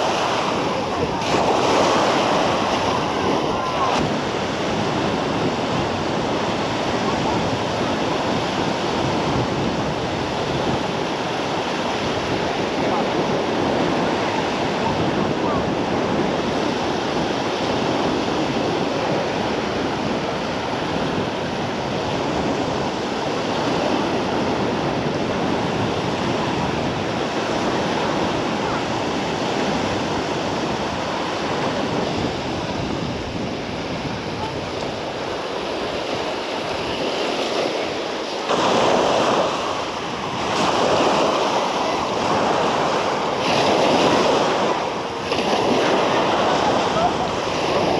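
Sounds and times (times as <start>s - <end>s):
sea waves on sandy beach: 0.0s - 47.9s.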